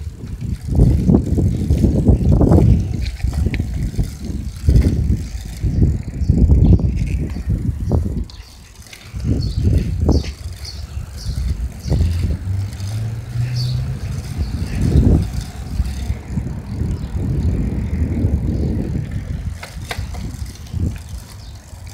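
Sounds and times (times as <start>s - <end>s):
bicycle rolling over pavement: 0.0s - 21.9s
small rattles: 0.0s - 21.9s
wind buffeting microphone: 0.0s - 21.9s.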